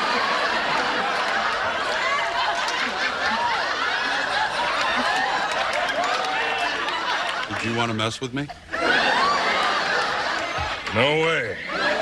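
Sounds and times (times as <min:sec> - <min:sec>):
studio audience laughing: 0:00.0 - 0:12.0.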